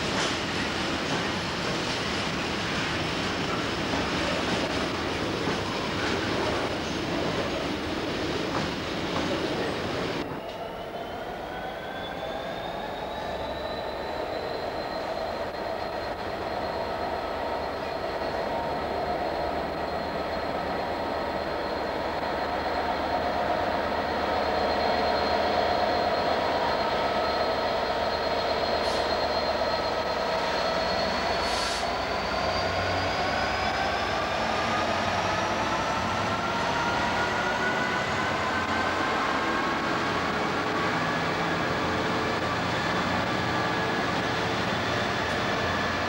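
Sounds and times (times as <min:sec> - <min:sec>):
diesel locomotive engine whine: 0:00.0 - 0:46.0.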